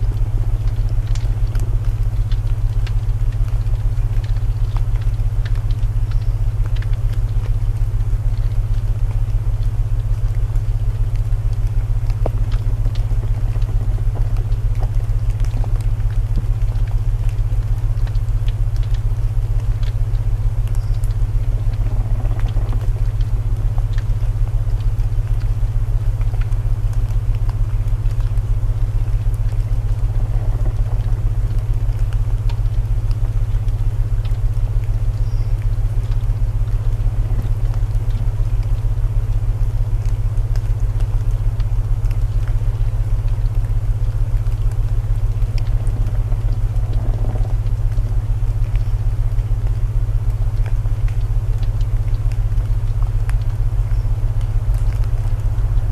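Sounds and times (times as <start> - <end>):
fire crackling in fireplace: 0.0 - 55.9
rain hissing: 4.5 - 55.9.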